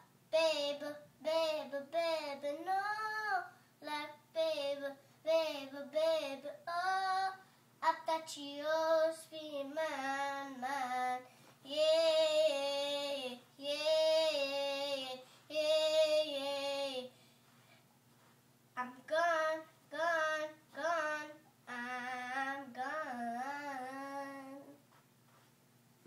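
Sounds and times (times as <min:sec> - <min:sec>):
boy singing unaccompanied: 0:00.3 - 0:17.1, 0:18.8 - 0:24.8.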